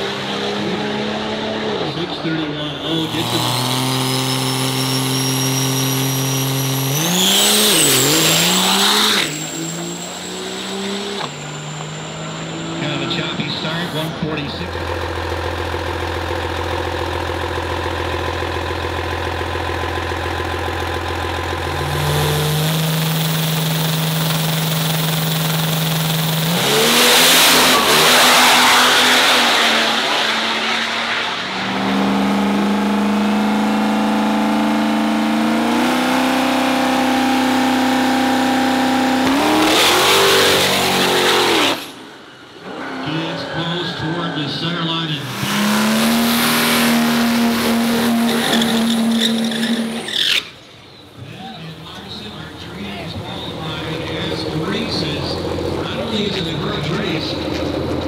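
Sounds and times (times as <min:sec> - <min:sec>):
diesel truck engines revving hard: 0:00.0 - 0:58.0.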